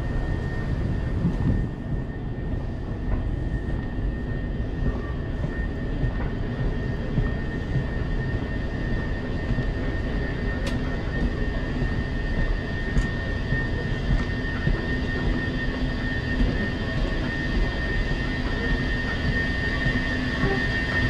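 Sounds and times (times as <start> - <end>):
high whine: 0.0 - 21.0
moving walkway rumble: 0.0 - 21.0.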